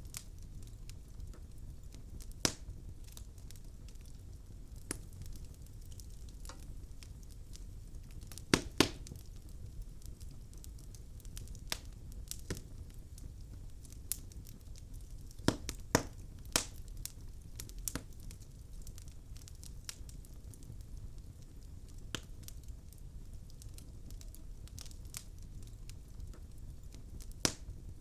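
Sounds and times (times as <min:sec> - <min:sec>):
logs crackling in fireplace: 0:00.0 - 0:28.0
low steady hiss: 0:00.0 - 0:28.0
sharp fire pops: 0:00.1 - 0:20.7, 0:23.6 - 0:28.0.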